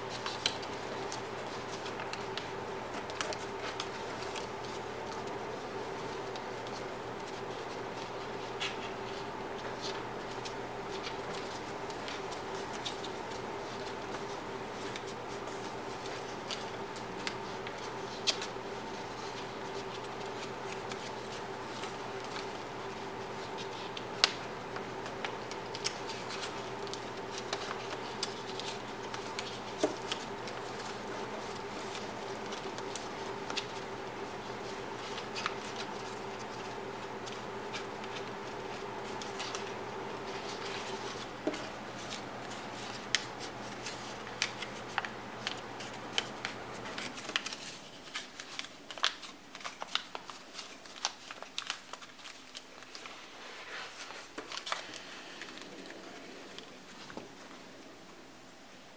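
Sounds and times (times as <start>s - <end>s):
paper crackling as folded: 0.0s - 58.9s
steady background hum: 0.0s - 58.9s.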